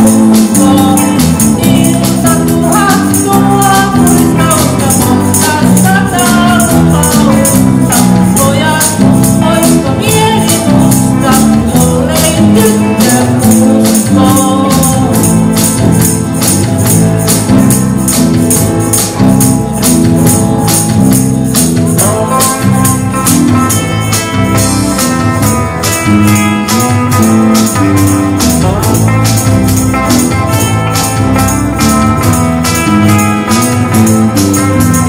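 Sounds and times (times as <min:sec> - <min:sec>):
bass line: 0:00.0 - 0:35.0
shaken percussion: 0:00.0 - 0:35.0.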